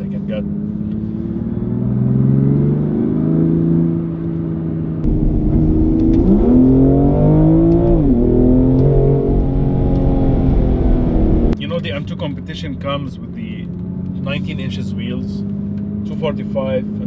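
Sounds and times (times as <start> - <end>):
car engine revving in cabin: 0.0 - 17.0.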